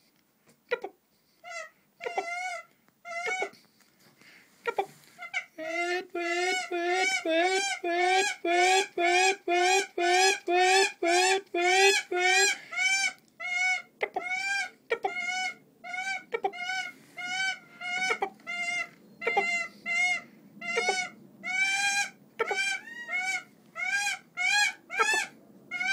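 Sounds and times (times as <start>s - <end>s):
goshawk wailing calls: 1.4s - 3.5s, 5.2s - 25.9s.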